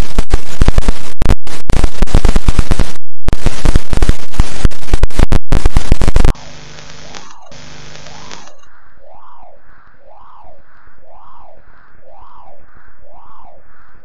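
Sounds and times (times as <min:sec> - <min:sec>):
loud clipped crackling: 0:00.0 - 0:13.9.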